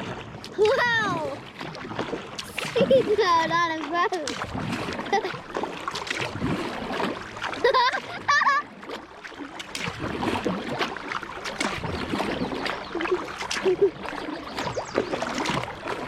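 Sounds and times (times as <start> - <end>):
paddle splashing: 0.0 - 16.0
water dripping and trickling: 0.0 - 16.0.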